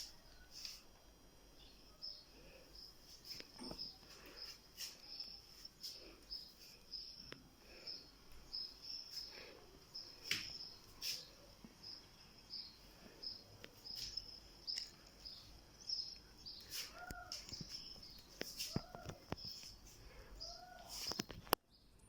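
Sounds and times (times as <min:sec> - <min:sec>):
insects chirping: 0:00.0 - 0:21.5.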